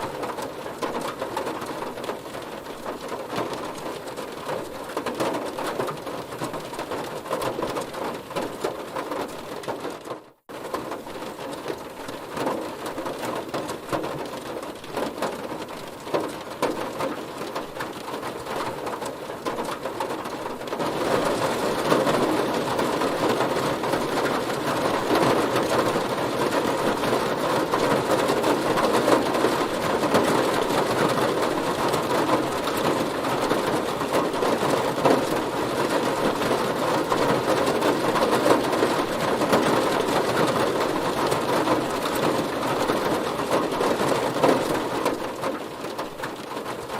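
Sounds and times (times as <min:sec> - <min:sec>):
heavy rain on a car roof: 0:00.0 - 0:46.9.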